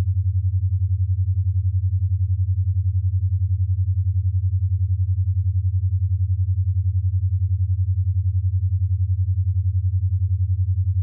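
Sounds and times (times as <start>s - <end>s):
pulsing low hum: 0.0s - 11.0s.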